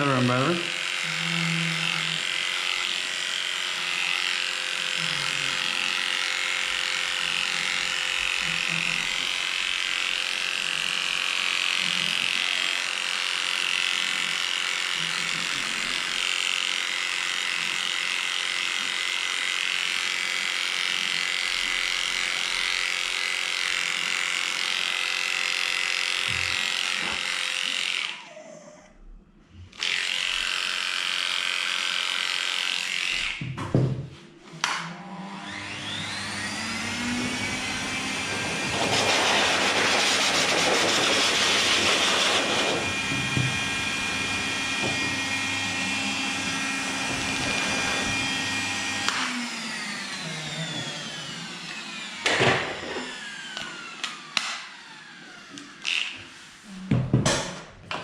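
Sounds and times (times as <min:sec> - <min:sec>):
electric clippers running: 0:00.0 - 0:28.5, 0:29.5 - 0:33.6, 0:34.4 - 0:56.4.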